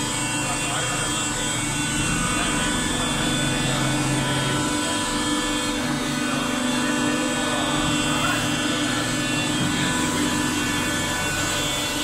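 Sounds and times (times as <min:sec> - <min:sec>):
baling machine humming: 0:00.0 - 0:12.0.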